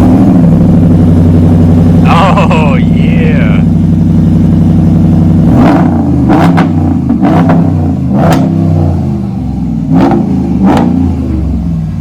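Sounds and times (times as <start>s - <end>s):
pickup engine revving: 0.0s - 12.0s.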